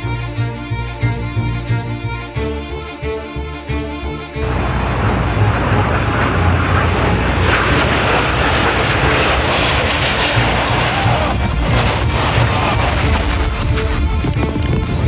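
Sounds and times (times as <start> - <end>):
airplane engine rushing: 0.0 - 15.0.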